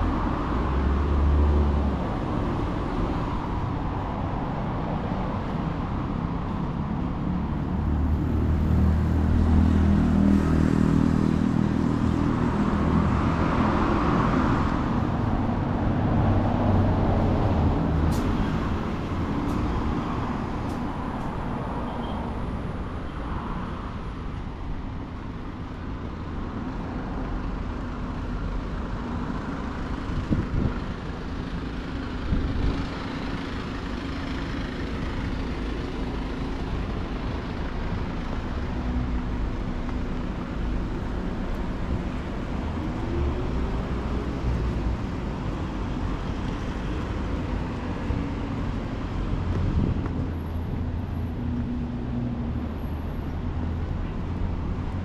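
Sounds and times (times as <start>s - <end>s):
hum of engines: 0.0s - 55.0s
vehicles passing: 0.0s - 55.0s.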